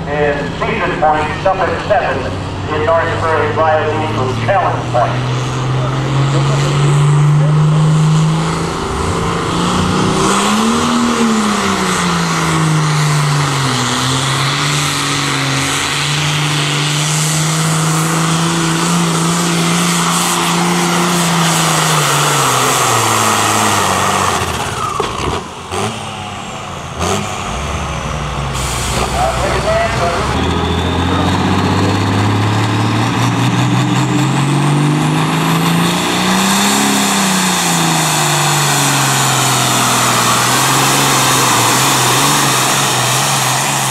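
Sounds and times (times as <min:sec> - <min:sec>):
tractor diesel engine at full throttle: 0:00.0 - 0:43.9.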